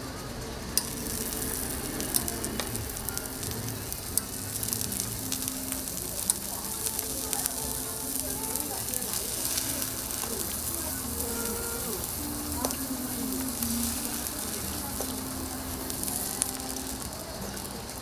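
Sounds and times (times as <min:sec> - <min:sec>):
food sizzling on a griddle: 0:00.0 - 0:18.0
utensil clicks: 0:00.8 - 0:18.0.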